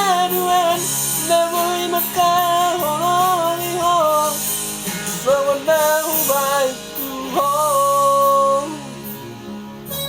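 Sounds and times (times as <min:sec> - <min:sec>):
acoustic guitar: 0:00.0 - 0:10.0
person singing: 0:00.0 - 0:10.0.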